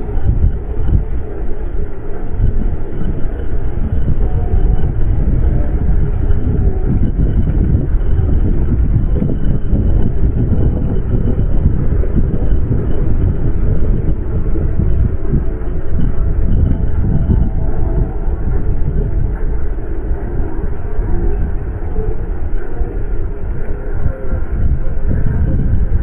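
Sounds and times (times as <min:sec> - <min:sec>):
vehicle rumbling: 0:00.0 - 0:26.0.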